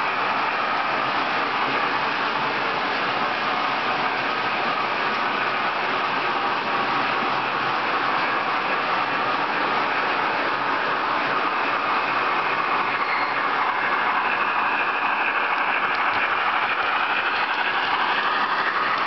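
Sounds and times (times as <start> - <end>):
model train running on rails: 0.0 - 19.0.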